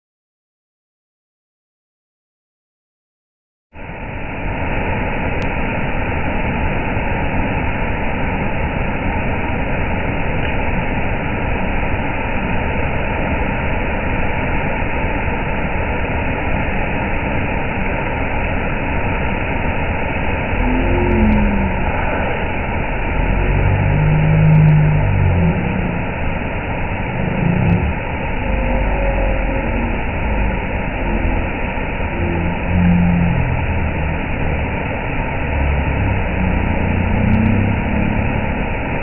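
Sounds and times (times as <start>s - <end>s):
waterfall rushing: 3.8s - 39.0s.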